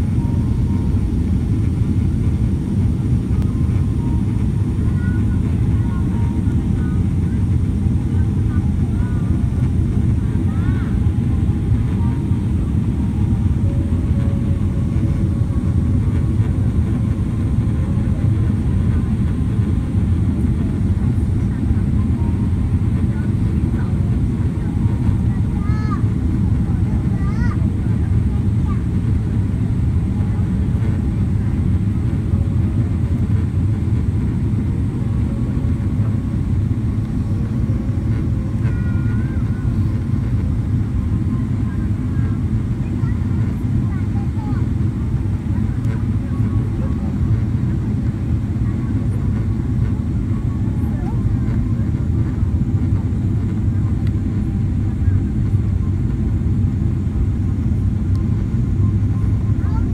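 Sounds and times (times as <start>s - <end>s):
airliner landing rumble: 0.0s - 59.9s.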